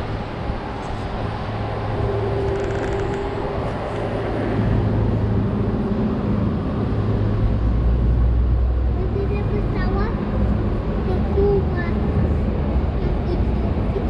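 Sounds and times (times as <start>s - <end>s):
vehicle engine rumbling hum: 0.0s - 14.0s.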